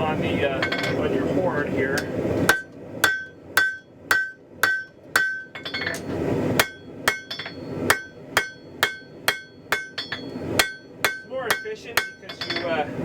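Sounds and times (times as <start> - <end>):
hammer striking hot steel on anvil: 0.6 - 1.1, 2.0 - 12.9.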